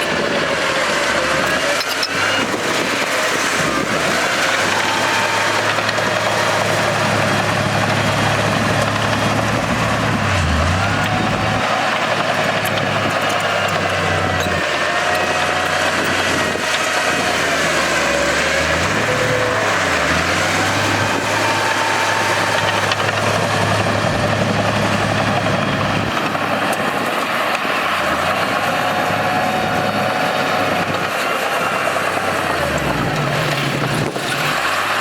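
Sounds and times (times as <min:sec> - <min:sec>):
bulldozer diesel engine: 0:00.0 - 0:35.0.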